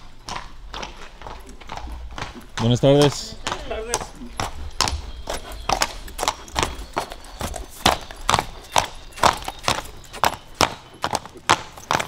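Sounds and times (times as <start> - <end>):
horse hooves on cobblestones: 0.0 - 12.0.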